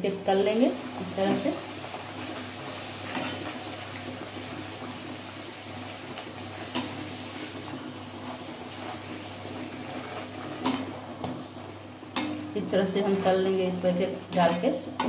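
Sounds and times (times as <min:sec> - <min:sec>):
dough deep-frying in oil: 0:00.0 - 0:15.0.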